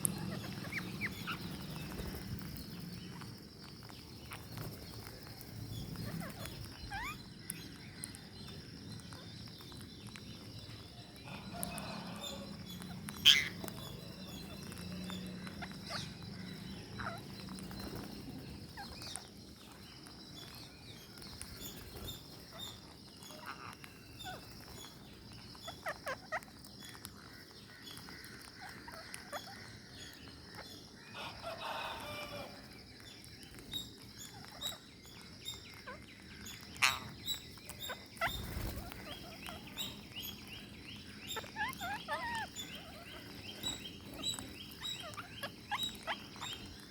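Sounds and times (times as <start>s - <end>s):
birds chirping and squawking: 0.0s - 46.9s.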